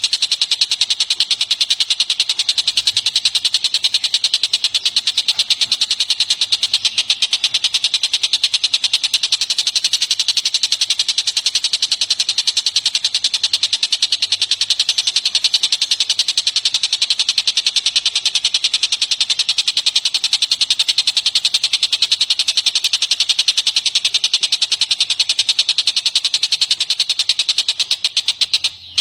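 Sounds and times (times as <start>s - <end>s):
bird calling rapid high notes: 0.0s - 29.0s.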